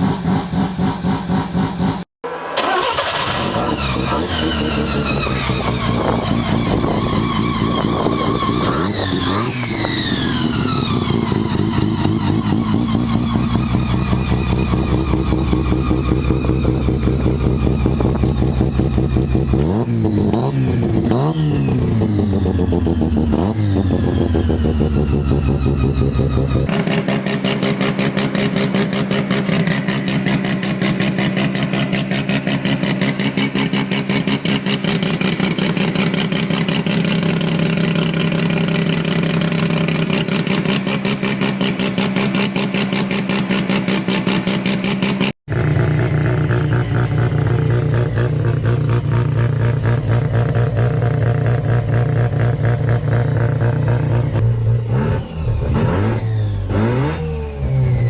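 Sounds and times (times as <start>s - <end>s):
rotary engine buzzing: 2.6s - 58.0s.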